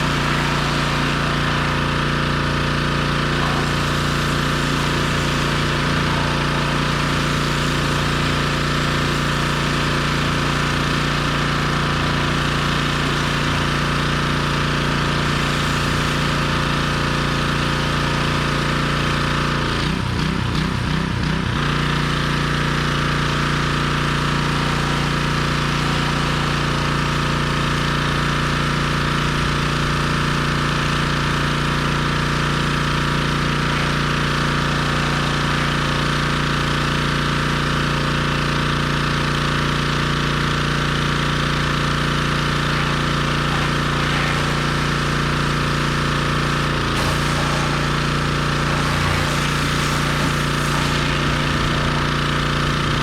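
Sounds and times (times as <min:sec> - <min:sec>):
pressure washer engine running: 0:00.0 - 0:53.0.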